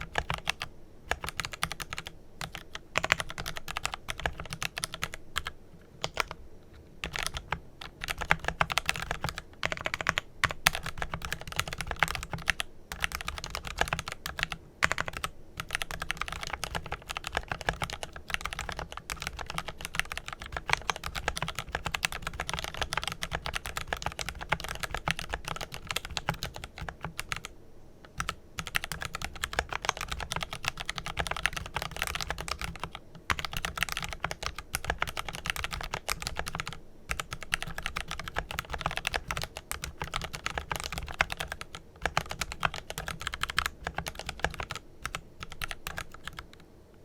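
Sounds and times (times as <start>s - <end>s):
mechanical keyboard typing: 0.0s - 27.5s, 28.1s - 46.6s.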